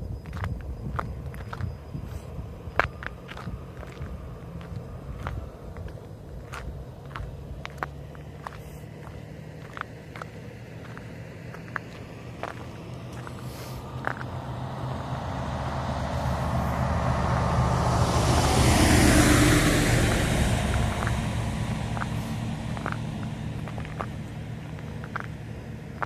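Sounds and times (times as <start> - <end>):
car driving past: 2.0 - 26.0.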